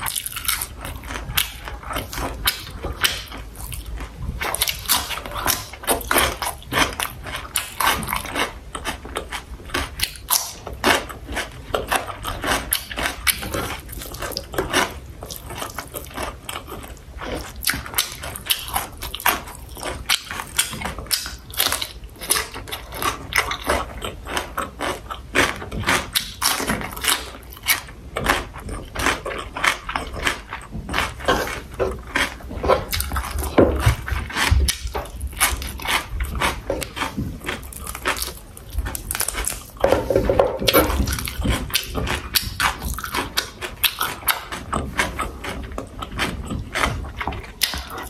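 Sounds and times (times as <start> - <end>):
person chewing: 0.0 - 48.0.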